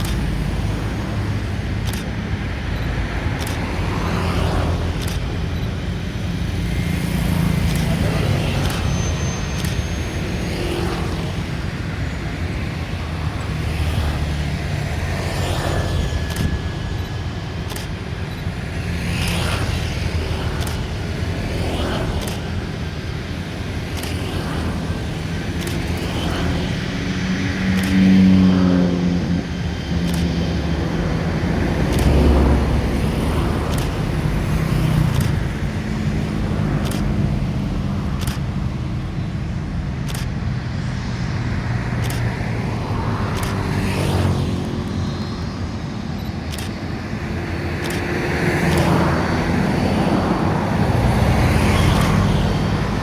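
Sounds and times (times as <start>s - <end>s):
sharp clicks: 0.0s - 11.9s, 12.8s - 26.8s, 27.5s - 28.5s, 29.9s - 30.9s, 31.8s - 41.0s, 41.7s - 53.0s
low rumble of vehicles: 0.0s - 53.0s.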